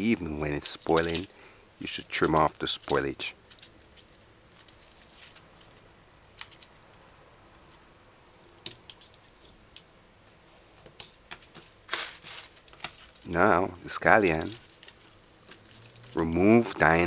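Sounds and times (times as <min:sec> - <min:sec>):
onion skin crackling: 0:00.0 - 0:07.7, 0:10.6 - 0:17.0.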